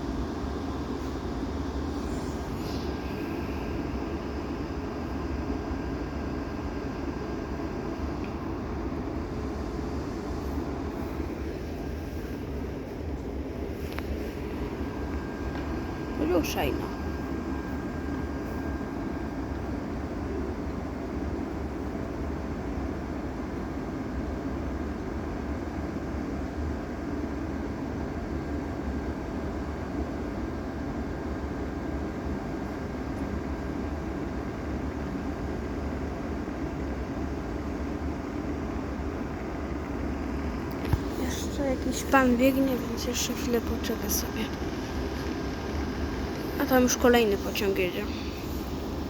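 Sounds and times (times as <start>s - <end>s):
faint steady whine: 0.0s - 49.0s
train engine hum and rumble: 0.0s - 49.0s.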